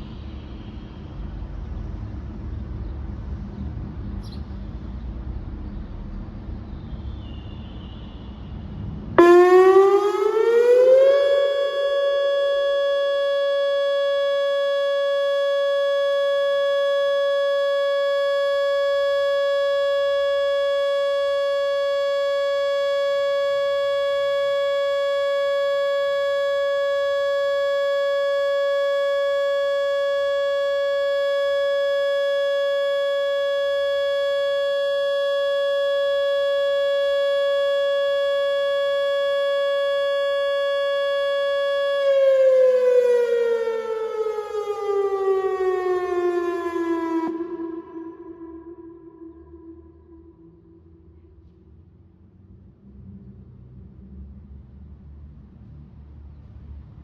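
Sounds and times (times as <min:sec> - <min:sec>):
warning siren steady tone: 0:00.0 - 0:02.7, 0:07.0 - 0:54.4.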